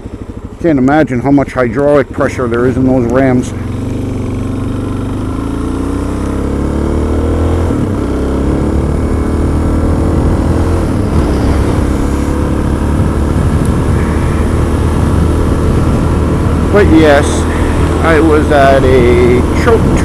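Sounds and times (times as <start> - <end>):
road and wind noise: 0.0 - 20.0
vehicle engine accelerating: 0.0 - 20.0.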